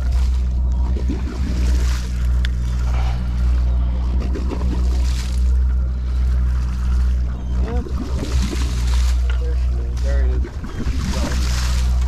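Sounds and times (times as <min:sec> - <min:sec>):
boat engine droning: 0:00.0 - 0:12.0
water splashing against hull: 0:00.0 - 0:12.0.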